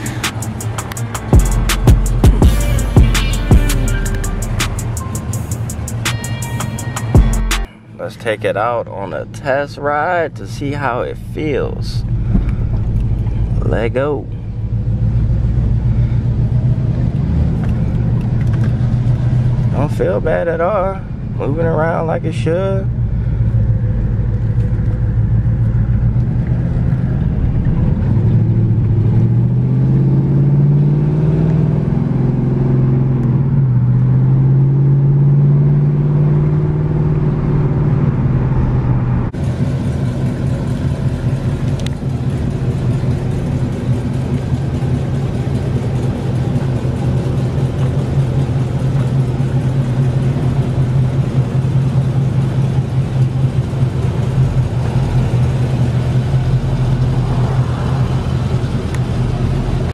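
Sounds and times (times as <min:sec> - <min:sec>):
car engine accelerating: 0:00.0 - 0:07.7, 0:10.2 - 0:59.9
engine running steadily: 0:00.0 - 0:59.9.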